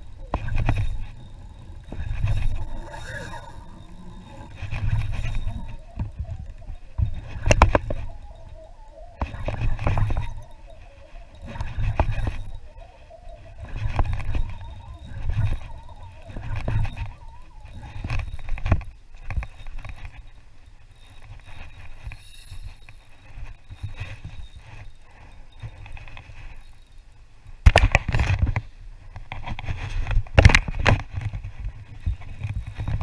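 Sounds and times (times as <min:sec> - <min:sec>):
fishing reel whine: 0:00.0 - 0:28.4, 0:31.2 - 0:33.0
reel clicks: 0:00.0 - 0:33.0.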